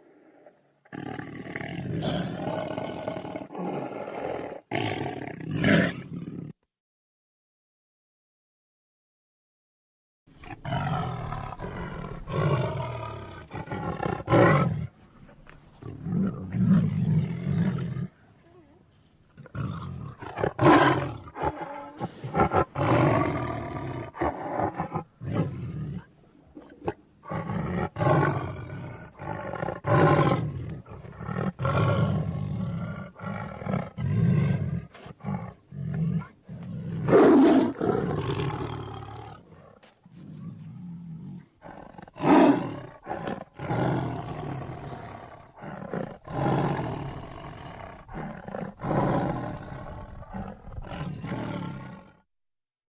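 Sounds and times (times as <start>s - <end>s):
tiger roaring: 0.0s - 6.2s, 10.4s - 14.9s, 15.8s - 18.2s, 19.4s - 52.2s
tiger growling: 0.0s - 6.5s, 10.4s - 52.2s.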